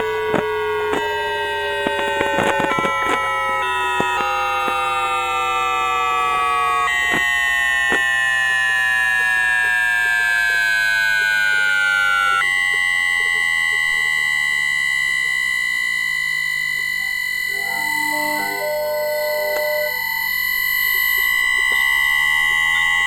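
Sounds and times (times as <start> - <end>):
train inverter whining tones: 0.0 - 23.0.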